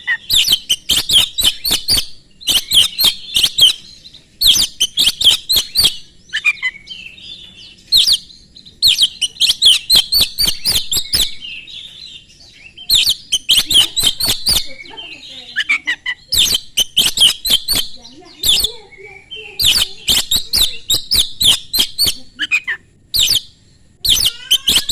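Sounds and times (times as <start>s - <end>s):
bird singing whistled notes: 0.0s - 24.9s.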